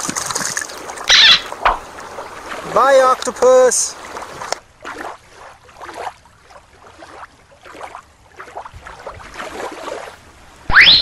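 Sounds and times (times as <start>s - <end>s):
water lapping on pebbles: 0.0s - 10.6s.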